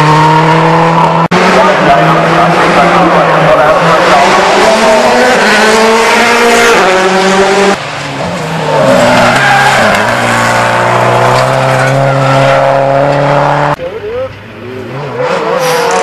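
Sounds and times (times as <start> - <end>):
rally car engines revving high: 0.0 - 16.0.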